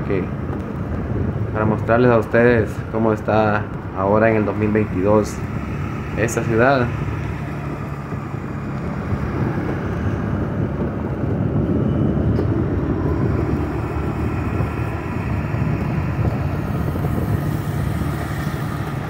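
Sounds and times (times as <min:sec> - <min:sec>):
vehicle engine and road noise: 0:00.0 - 0:19.0
low hum: 0:03.6 - 0:19.0.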